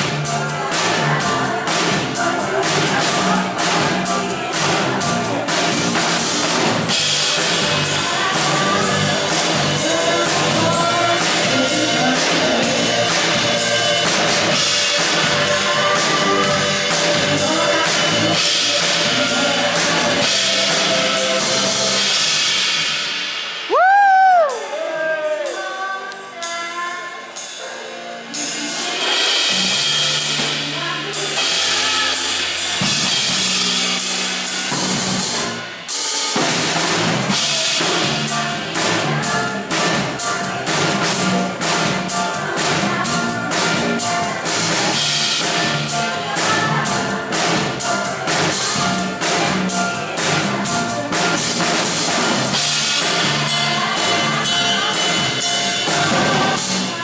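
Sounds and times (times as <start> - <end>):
held bass notes: 0.0 - 24.4, 28.4 - 57.0
drum kit steady beat: 0.0 - 24.8, 25.5 - 57.0
pop band playing: 0.0 - 57.0.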